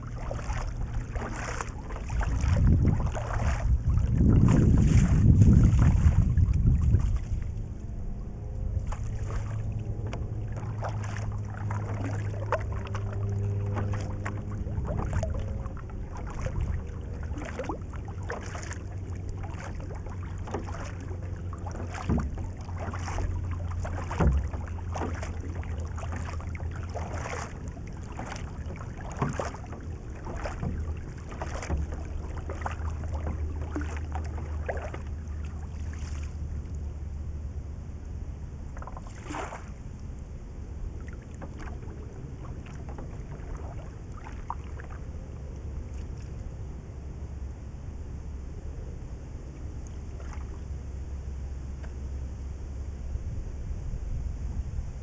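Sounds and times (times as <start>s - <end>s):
paddle strokes splashing: 0.0s - 37.4s, 38.7s - 46.6s, 49.5s - 50.8s
steady low rumble: 0.0s - 55.0s.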